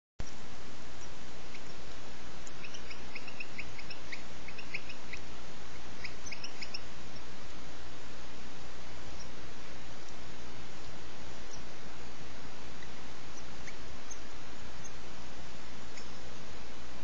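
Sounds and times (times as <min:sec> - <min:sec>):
nestlings cheeping: 0:00.2 - 0:07.4, 0:09.0 - 0:15.1, 0:15.7 - 0:16.6
steady hiss: 0:00.2 - 0:17.0.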